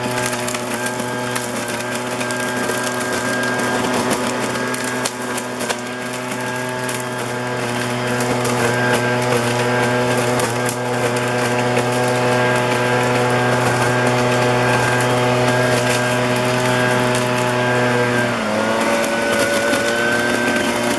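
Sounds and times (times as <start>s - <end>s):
street vacuum cleaner humming: 0.0s - 20.9s.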